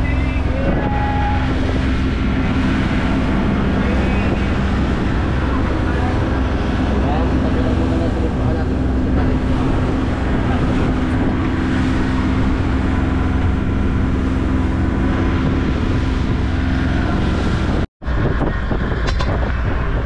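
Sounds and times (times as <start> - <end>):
motorboat engine humming: 0.0 - 20.0.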